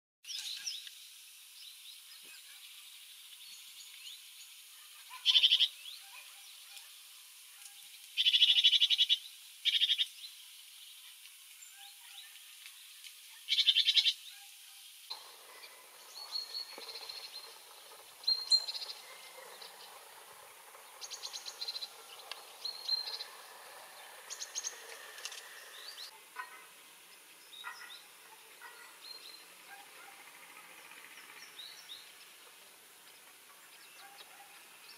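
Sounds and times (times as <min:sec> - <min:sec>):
songbird trills and chirps: 0:01.6 - 0:34.9.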